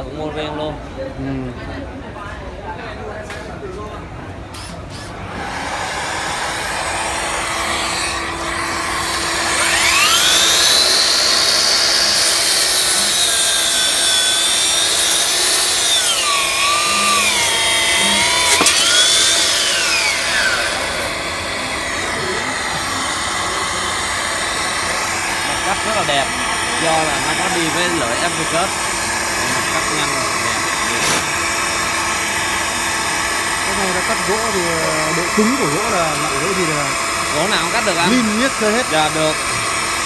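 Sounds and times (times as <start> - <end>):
steady background whir: 0.0 - 40.0
saw blade cutting wood: 4.6 - 40.0.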